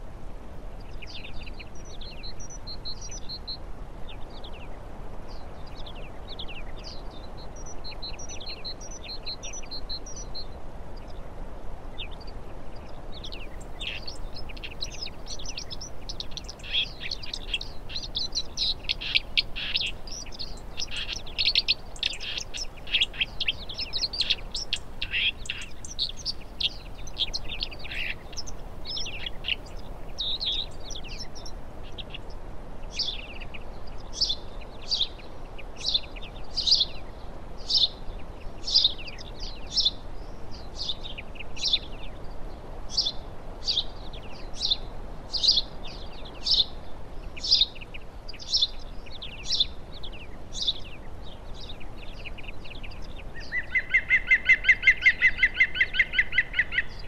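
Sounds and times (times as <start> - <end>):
faint outdoor background: 0.0 - 57.0
small songbirds chirping: 0.8 - 11.3, 11.9 - 57.0.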